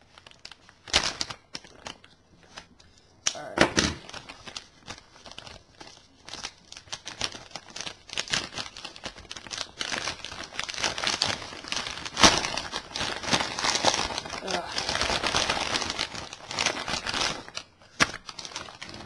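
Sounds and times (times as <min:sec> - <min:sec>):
packaging crinkling and tearing: 0:00.0 - 0:19.0.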